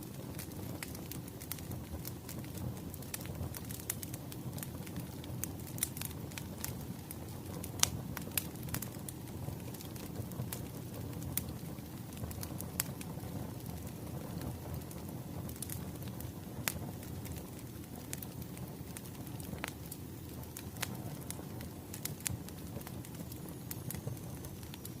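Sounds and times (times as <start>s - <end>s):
burning firewood crackling: 0.0s - 25.0s.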